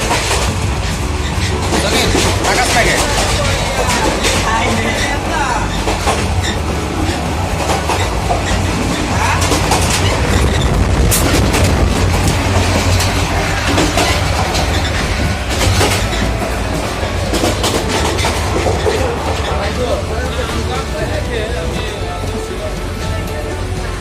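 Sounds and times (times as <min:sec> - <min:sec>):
train rumbling inside coach: 0:00.0 - 0:24.0
wheels clacking over rail joints: 0:00.0 - 0:24.0.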